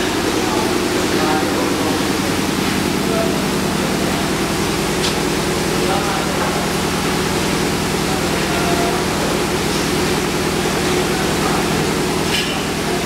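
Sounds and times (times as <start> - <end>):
factory machinery humming: 0.0 - 13.0.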